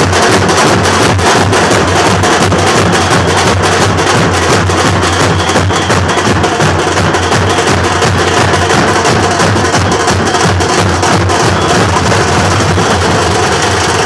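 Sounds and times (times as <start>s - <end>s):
drumming on barrel drums: 0.0s - 14.0s.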